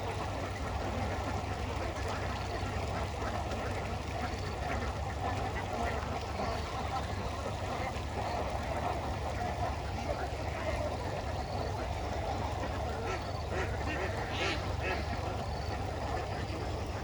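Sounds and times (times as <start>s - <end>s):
flock of ducks quacking: 0.0s - 17.0s.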